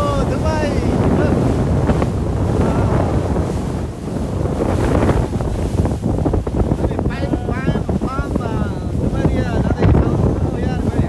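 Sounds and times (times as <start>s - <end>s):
rush of water: 0.0s - 11.0s
speed boat engine noise: 0.0s - 11.0s
wind buffeting microphone: 0.0s - 11.0s.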